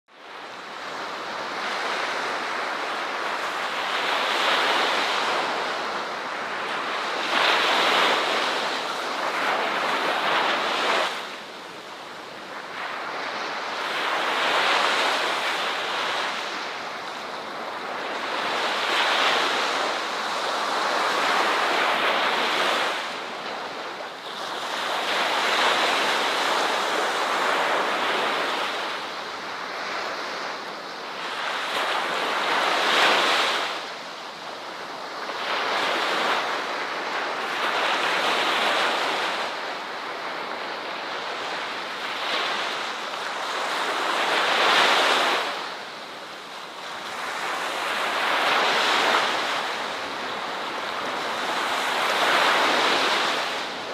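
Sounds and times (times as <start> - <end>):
waves breaking and washing in: 0.1 - 53.9.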